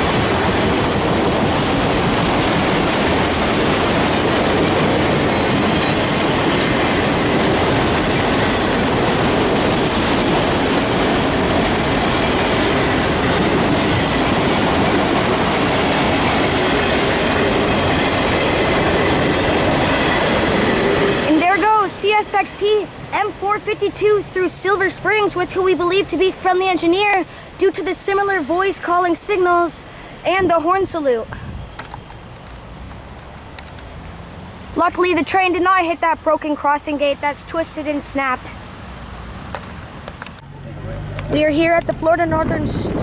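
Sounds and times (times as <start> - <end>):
freight train wheels rumbling: 0.0 - 43.0.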